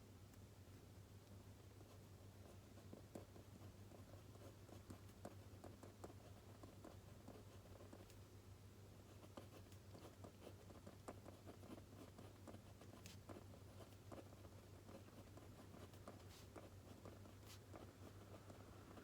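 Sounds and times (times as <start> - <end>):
steady low hum: 0.0 - 19.0
pen scratching on paper: 1.8 - 8.1, 9.1 - 19.0.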